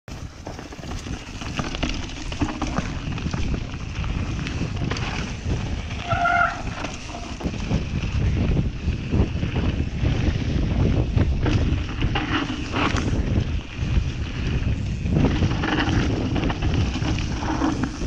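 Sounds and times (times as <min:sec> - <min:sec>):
mountain bike rattling: 0:00.1 - 0:18.0
wind buffeting microphone: 0:00.1 - 0:18.0.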